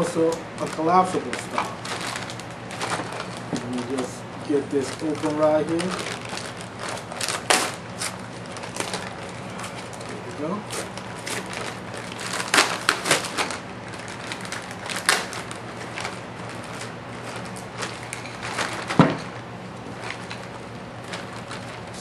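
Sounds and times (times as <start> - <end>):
plastic bags crinkling: 0.0 - 22.0.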